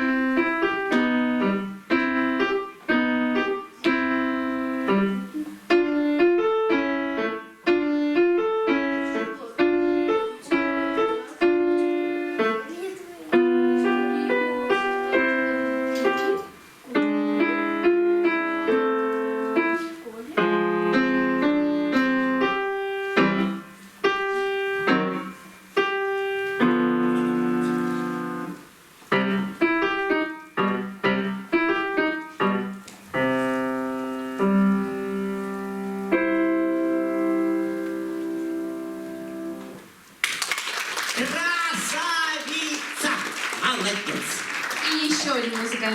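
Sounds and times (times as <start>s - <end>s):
solo piano piece: 0.0s - 40.2s.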